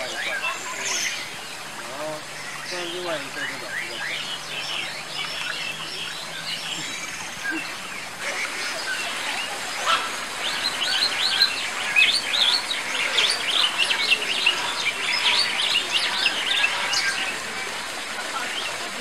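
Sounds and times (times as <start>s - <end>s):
birds chirping: 0.0s - 19.0s
steady background hiss: 0.0s - 19.0s.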